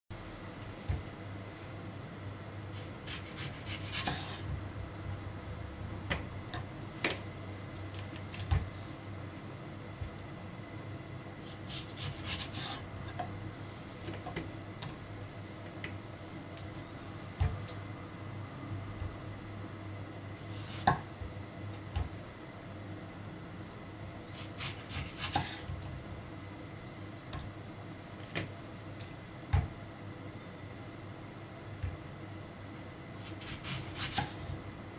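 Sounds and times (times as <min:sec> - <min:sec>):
steady low hum: 0:00.1 - 0:34.9.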